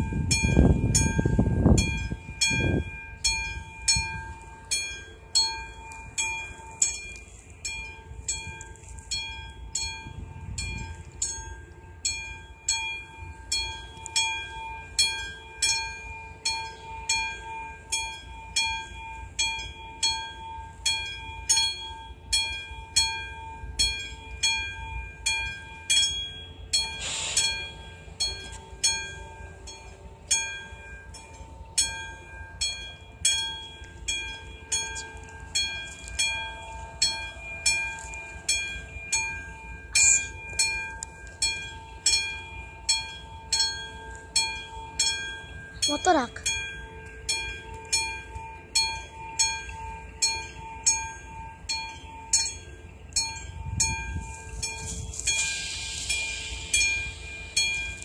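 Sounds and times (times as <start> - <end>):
level crossing bell ringing: 0.0 - 58.0.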